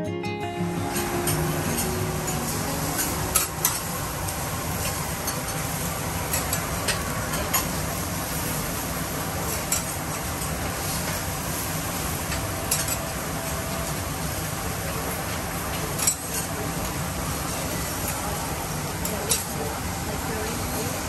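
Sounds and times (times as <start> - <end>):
food sizzling on a griddle: 1.0 - 21.0.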